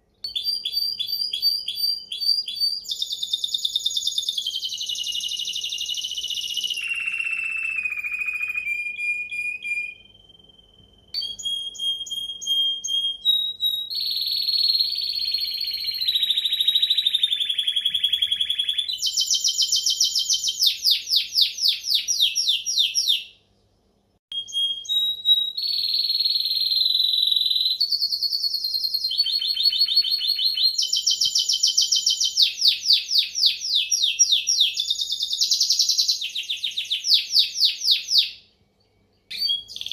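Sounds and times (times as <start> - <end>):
canary singing: 0.0 - 23.6, 24.3 - 39.9.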